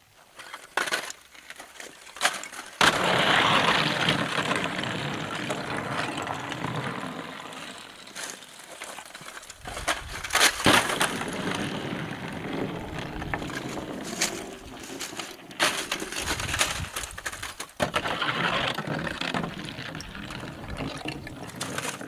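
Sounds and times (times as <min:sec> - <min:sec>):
ice cracking and crunching: 0:00.4 - 0:22.0.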